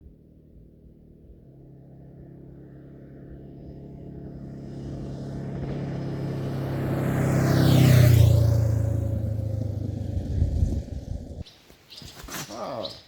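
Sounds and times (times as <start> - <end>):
low engine hum: 0.0 - 11.4.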